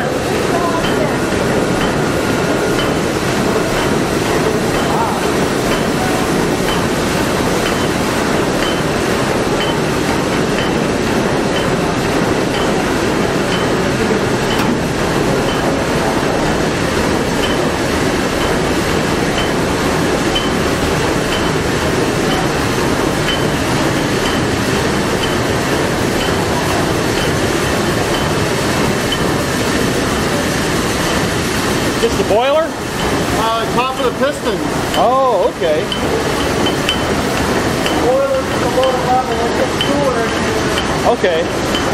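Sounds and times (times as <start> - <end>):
steam engine mechanical clatter: 0.0 - 41.9.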